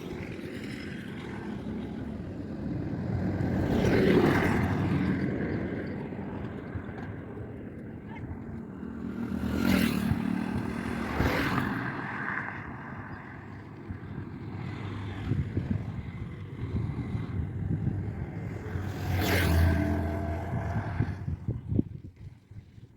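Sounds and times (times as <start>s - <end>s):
highway traffic rumble: 0.0s - 22.9s
vehicles passing close by: 0.0s - 22.9s.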